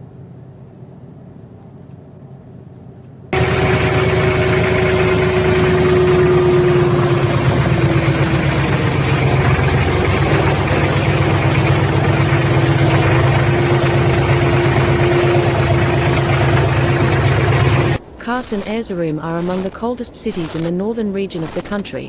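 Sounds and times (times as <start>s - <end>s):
vehicle engine running: 3.3s - 21.8s.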